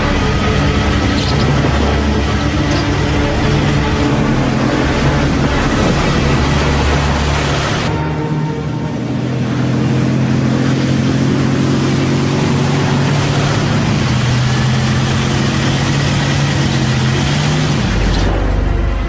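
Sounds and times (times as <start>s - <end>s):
heavy truck engine droning: 0.0s - 19.0s.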